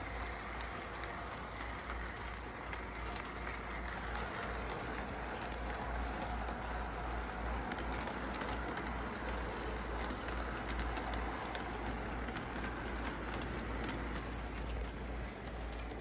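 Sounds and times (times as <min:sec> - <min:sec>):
model train rolling whir: 0:00.0 - 0:16.0
wheels clicking on rail joints: 0:00.0 - 0:16.0.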